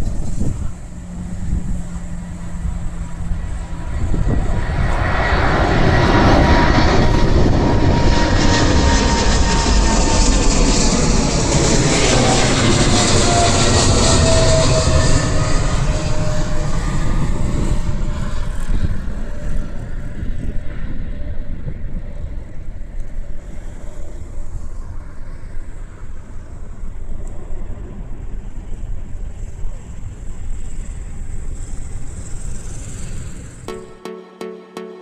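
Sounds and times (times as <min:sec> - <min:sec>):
jet engines roaring and whining: 0:00.0 - 0:33.8.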